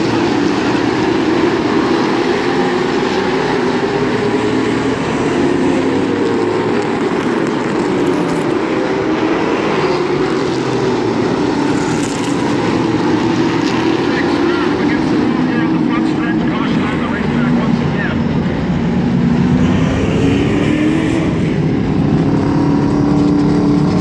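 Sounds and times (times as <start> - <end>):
racing car engines: 0.0 - 24.0.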